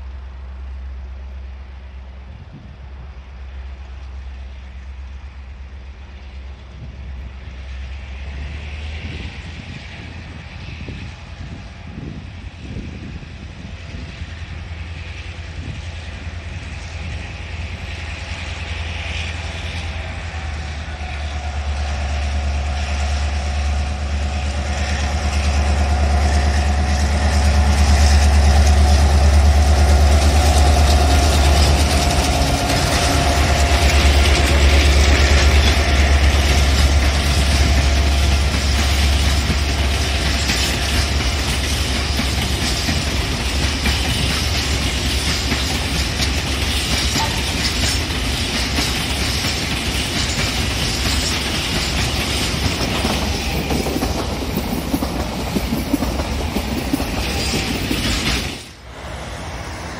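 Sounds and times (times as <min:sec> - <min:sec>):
diesel locomotive engine hum: 0:00.0 - 0:59.9
locomotive whine: 0:00.0 - 0:59.9.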